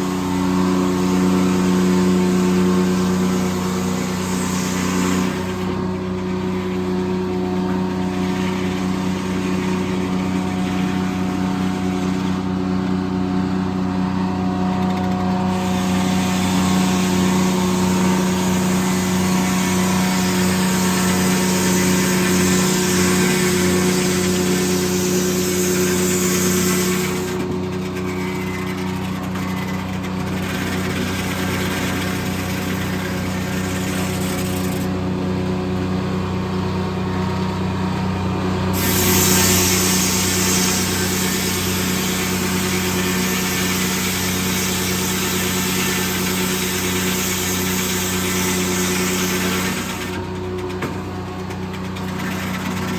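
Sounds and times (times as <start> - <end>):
circular blade cutting log: 0.0 - 35.1, 38.7 - 52.9
sawmill running hum: 0.0 - 52.9.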